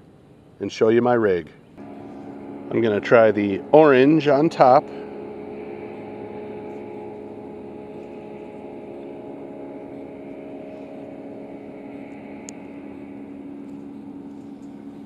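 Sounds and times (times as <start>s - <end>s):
engine droning: 1.7s - 15.0s.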